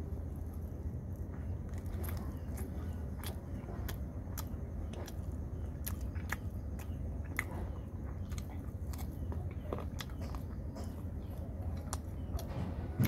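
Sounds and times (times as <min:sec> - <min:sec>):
person chewing chicken: 0:00.9 - 0:12.6.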